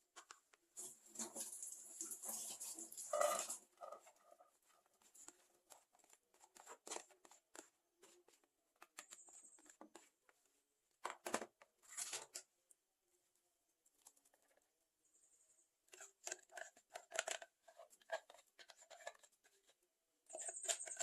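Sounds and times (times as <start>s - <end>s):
food being handled and prepared: 0.0s - 21.0s.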